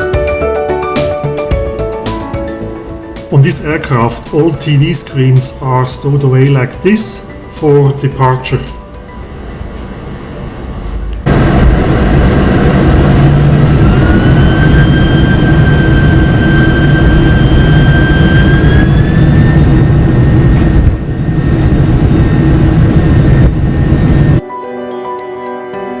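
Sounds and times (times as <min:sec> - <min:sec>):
jet engines roaring with fan whine: 0:00.1 - 0:24.4.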